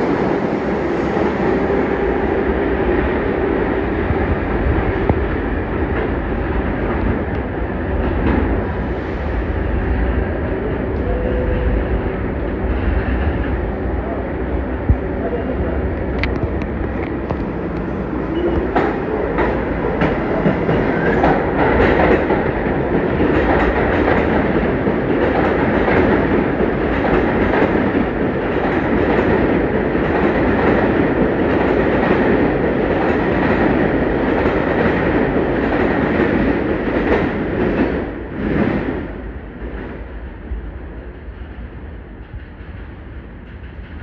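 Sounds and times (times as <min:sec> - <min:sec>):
subway train rumble: 0:00.0 - 0:44.0.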